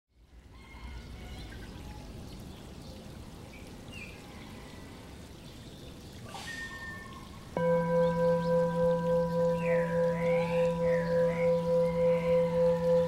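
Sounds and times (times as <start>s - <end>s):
running water rushing: 0.4s - 13.0s.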